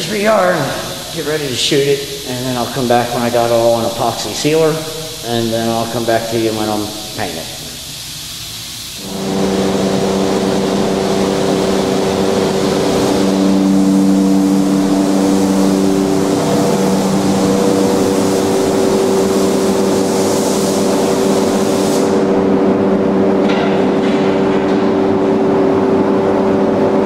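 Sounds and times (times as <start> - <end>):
loud hiss of air: 0.0 - 22.4
machine motor humming: 0.0 - 27.0.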